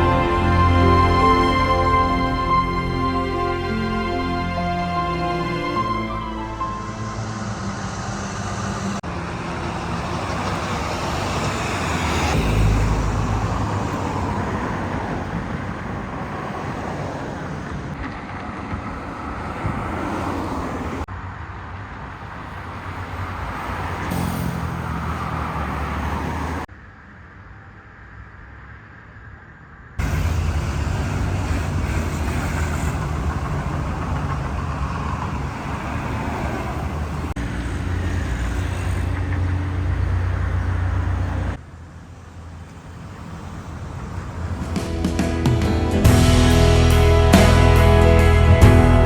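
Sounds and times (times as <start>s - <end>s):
vehicle engine and tyre noise: 0.0s - 49.0s.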